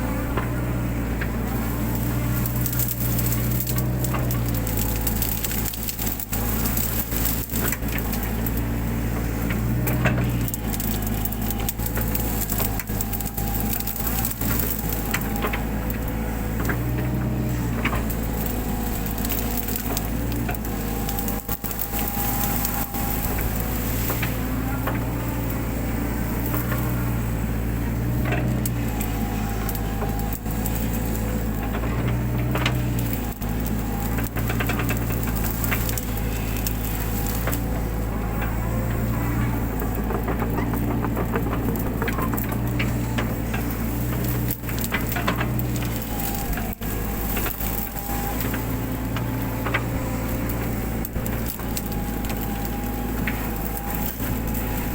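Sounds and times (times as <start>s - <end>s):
brush cracking and snapping: 0.0s - 54.9s
excavator diesel engine running: 0.0s - 54.9s.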